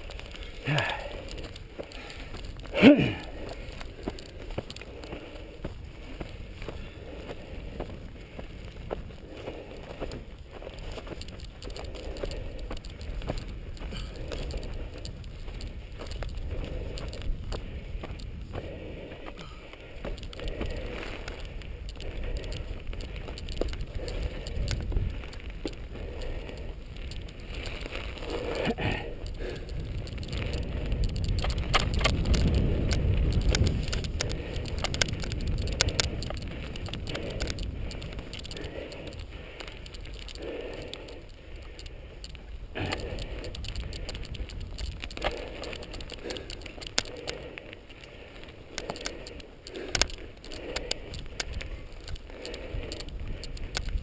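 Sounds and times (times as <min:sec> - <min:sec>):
bike clicks and rattles: 0:00.0 - 0:54.0
tyres rumbling on dirt trail: 0:00.0 - 0:54.0.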